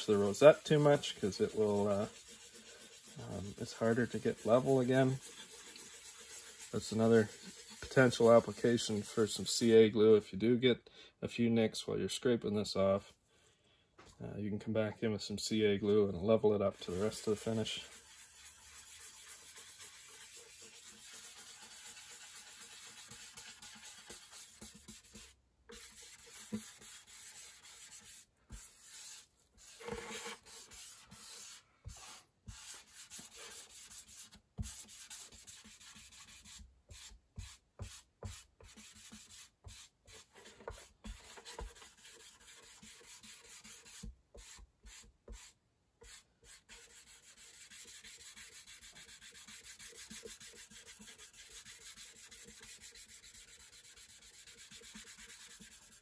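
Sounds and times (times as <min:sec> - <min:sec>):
pad rubbing on wood: 0:00.0 - 0:09.4, 0:16.8 - 0:56.0.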